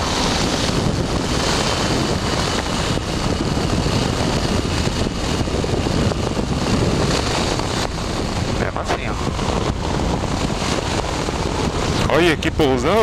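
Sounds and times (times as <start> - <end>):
engine and propeller running: 0.0 - 13.0
wind rushing over microphone: 0.0 - 13.0.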